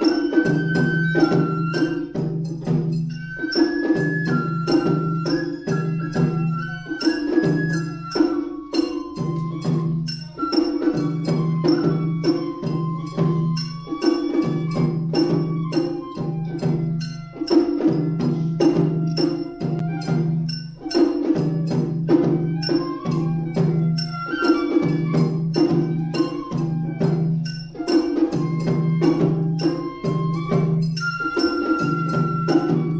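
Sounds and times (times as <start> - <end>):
bamboo flute melody: 0.0 - 32.9.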